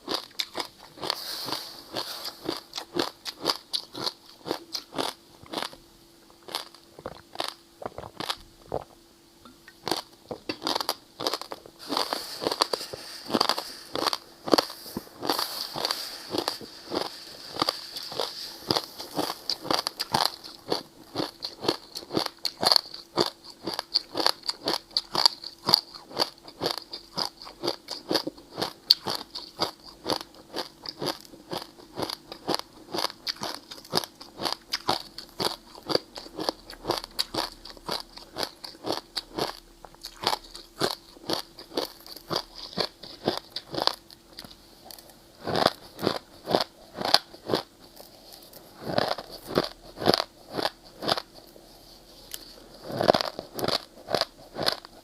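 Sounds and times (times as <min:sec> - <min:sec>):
ice being chewed: 0:00.0 - 0:05.8, 0:06.4 - 0:09.0, 0:09.7 - 0:55.0.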